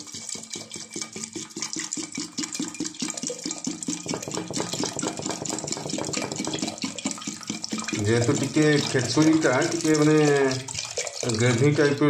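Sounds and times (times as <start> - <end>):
water glugging from bottle: 0.0 - 12.0.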